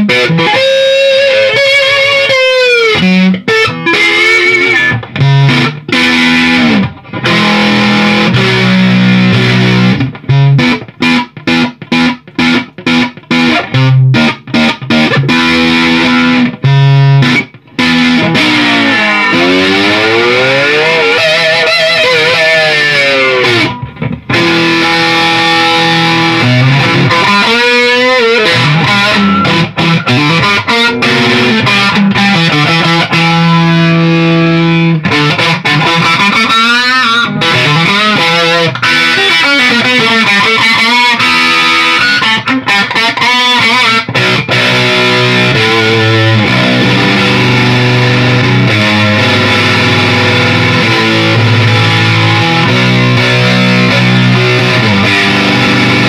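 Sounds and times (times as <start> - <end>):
distorted electric guitar lead: 0.0 - 56.0.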